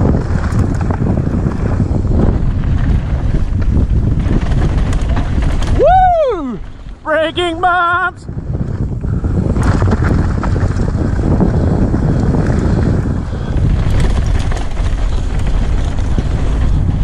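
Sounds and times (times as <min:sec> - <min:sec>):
bike clicks and rattles: 0:00.0 - 0:07.2, 0:08.3 - 0:17.0
tyre and frame noise: 0:00.0 - 0:07.8, 0:08.4 - 0:17.0
wind buffeting microphone: 0:00.0 - 0:17.0.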